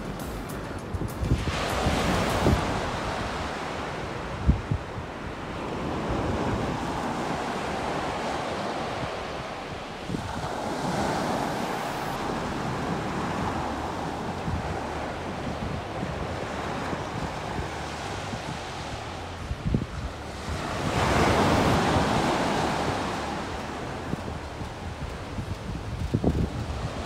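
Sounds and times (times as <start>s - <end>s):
surf breaking on beach: 0.0s - 27.0s
wind buffeting microphone: 0.0s - 27.0s.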